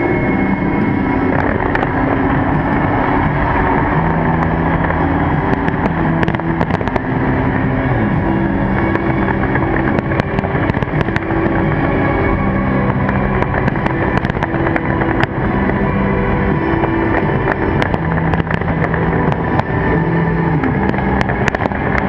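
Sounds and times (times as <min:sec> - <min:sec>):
rumble of firework bursts: 0:00.0 - 0:22.0
sharp firework crackles: 0:00.0 - 0:22.0
steady held tones: 0:00.0 - 0:22.0.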